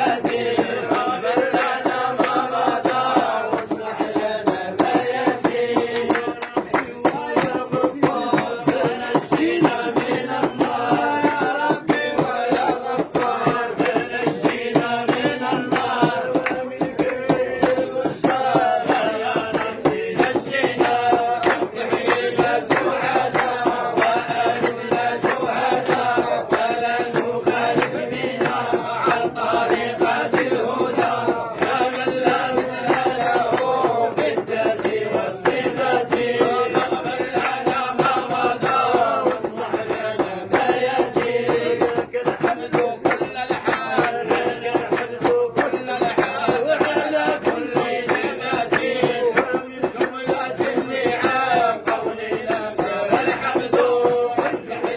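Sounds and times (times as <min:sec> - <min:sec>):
men chanting together: 0:00.0 - 0:54.9.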